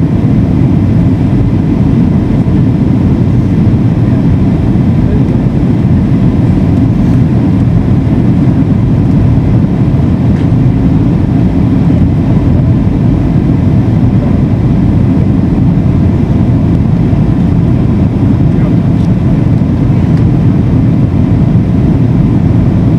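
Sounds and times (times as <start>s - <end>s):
airliner cabin rumble: 0.0s - 22.9s.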